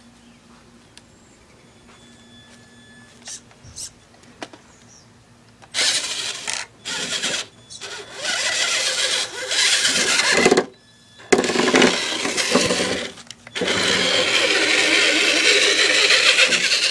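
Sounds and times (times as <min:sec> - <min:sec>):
electric motor and gearbox whirring: 0:01.9 - 0:04.2, 0:05.5 - 0:16.9.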